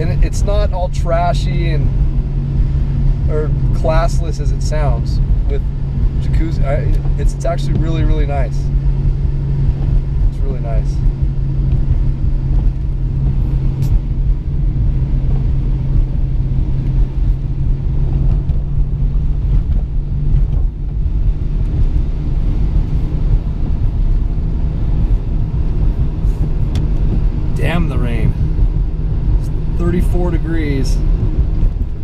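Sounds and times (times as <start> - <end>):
car engine and road drone: 0.0 - 32.0.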